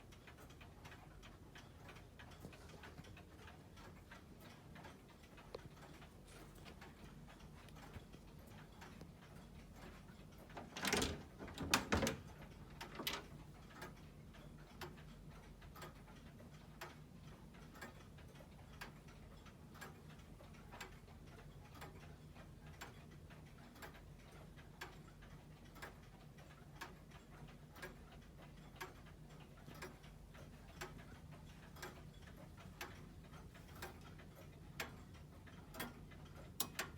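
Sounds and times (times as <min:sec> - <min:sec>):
grandfather clock ticking: 0:00.0 - 0:36.9.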